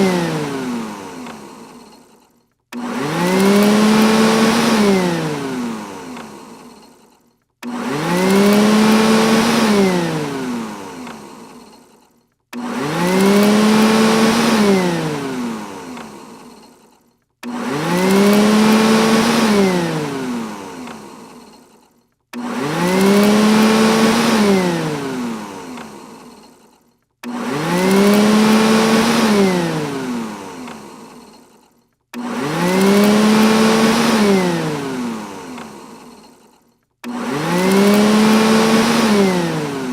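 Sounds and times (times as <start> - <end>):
robot vacuum motor whine: 0.0 - 39.9.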